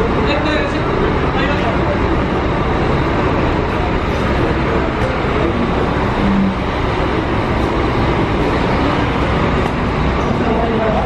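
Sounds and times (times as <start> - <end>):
diesel bus engines running: 0.0 - 11.0
people talking: 0.0 - 11.0.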